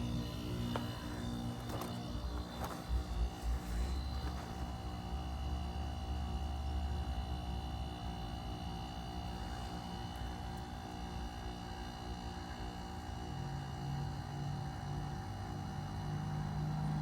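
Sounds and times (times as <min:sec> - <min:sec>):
heat pump hum with whining tones: 0:00.0 - 0:17.0.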